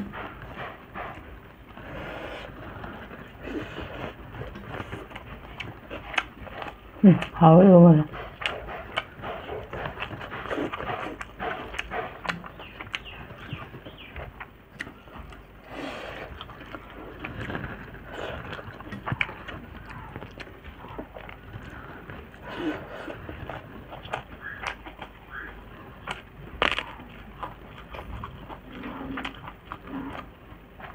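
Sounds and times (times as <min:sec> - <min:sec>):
wet chewing smacks: 0:00.0 - 0:30.9.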